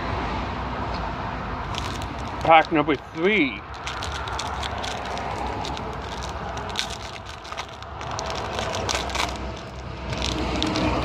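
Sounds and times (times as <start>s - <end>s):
road traffic rumble: 0.0s - 11.0s
foil wrapper crinkling and tearing: 1.7s - 11.0s.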